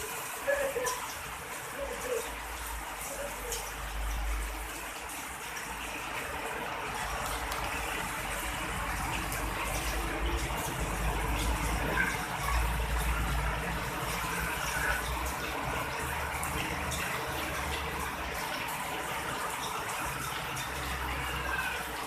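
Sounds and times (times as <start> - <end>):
drips ticking: 0.0 - 22.0
rain falling steadily: 0.0 - 22.0.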